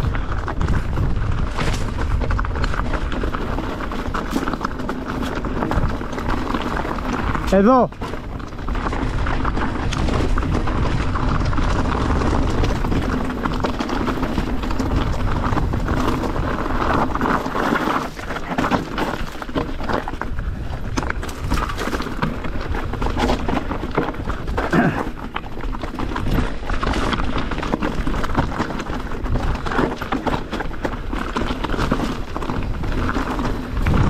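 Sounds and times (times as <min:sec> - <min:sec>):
bike tyres crunching over stones: 0:00.0 - 0:34.0
wind rumbling on microphone: 0:00.0 - 0:34.0.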